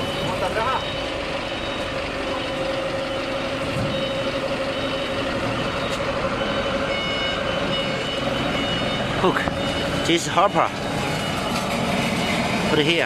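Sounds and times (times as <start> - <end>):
faint high beeps: 0.0 - 11.6
engine idling: 0.0 - 13.0.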